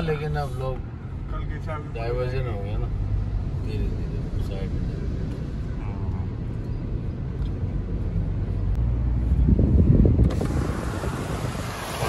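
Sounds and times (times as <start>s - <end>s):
engine and tyres rumbling in water: 0.0s - 12.0s.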